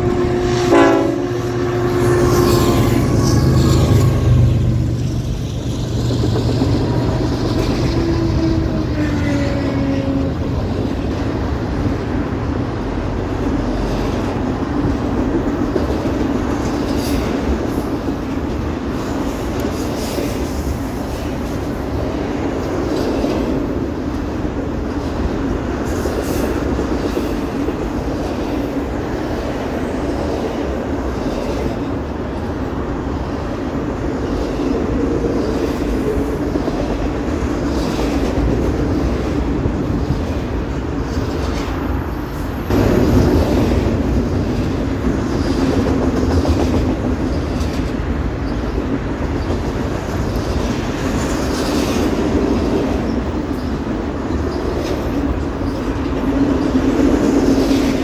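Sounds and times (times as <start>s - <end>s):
clickety-clack of wheels on rail joints: 0.0s - 58.0s
freight train rumbling past: 0.0s - 58.0s.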